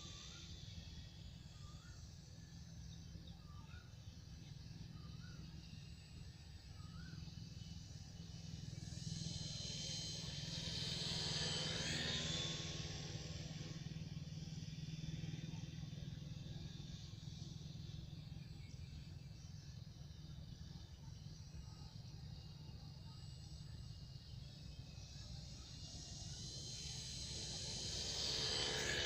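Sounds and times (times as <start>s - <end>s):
model plane motor whining past: 0.0s - 19.5s, 23.1s - 29.0s.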